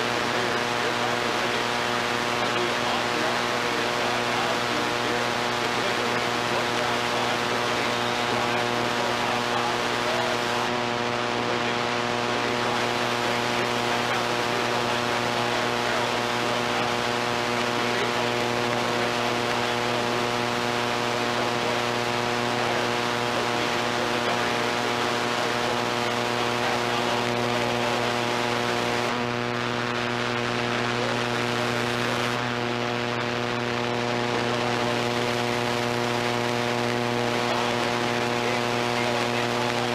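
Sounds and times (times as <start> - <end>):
constant hiss: 0.0 - 39.9
electrical hum: 0.0 - 39.9.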